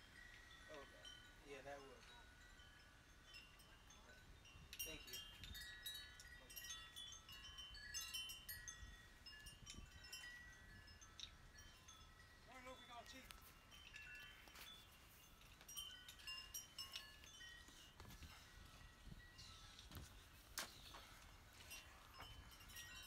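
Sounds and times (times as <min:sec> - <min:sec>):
faint wind chimes ringing: 0:00.0 - 0:23.0.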